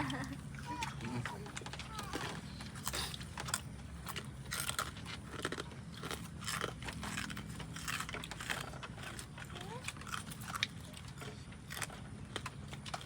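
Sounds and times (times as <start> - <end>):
person crunching and chewing food: 0.0 - 13.0.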